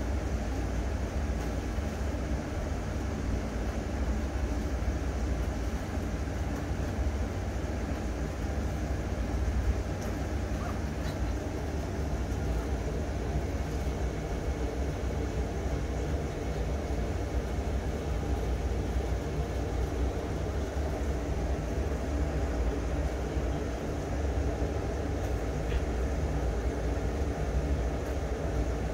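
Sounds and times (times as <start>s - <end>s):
faint low hum: 0.0s - 28.9s.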